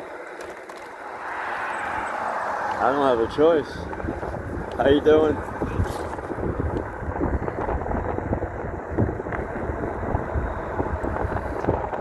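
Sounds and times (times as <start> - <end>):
wind buffeting microphone: 1.0 - 12.0.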